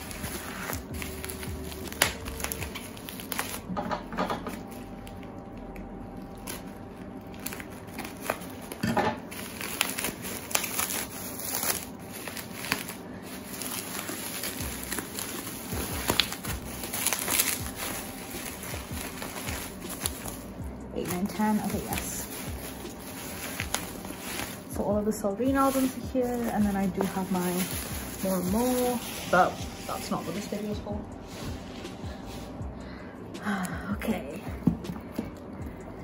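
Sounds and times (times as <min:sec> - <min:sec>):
packaging crinkling: 0:00.0 - 0:30.8.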